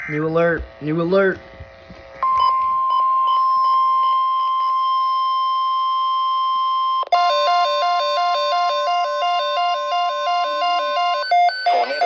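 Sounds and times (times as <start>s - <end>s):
steady high alert beep: 2.2s - 12.0s.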